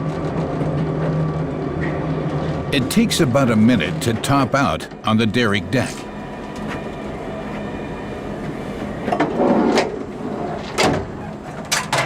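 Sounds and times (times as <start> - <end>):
elevator mechanical hum: 0.0 - 12.0.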